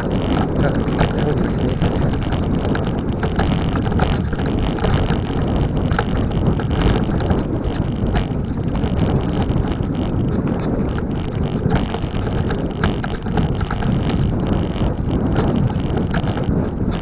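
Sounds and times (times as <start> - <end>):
small clicks and rattles: 0.0 - 17.0
tyres rumbling on road: 0.0 - 17.0
wind buffeting microphone: 0.0 - 17.0.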